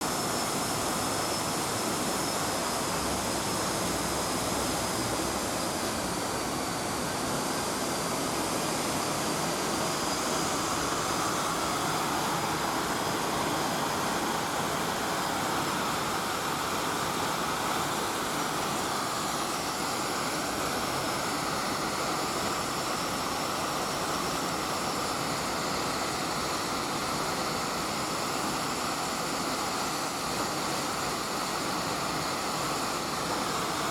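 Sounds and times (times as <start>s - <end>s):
faint thin high whine: 0.0s - 33.9s.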